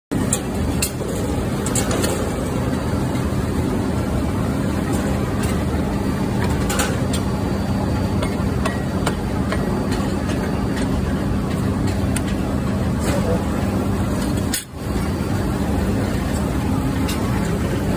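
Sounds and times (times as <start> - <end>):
machinery hum: 0.1 - 17.9.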